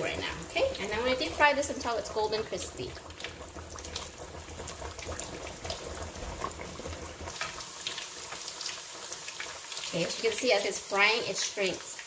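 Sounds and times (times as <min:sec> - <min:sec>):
patties deep-frying in oil: 0:00.0 - 0:12.0.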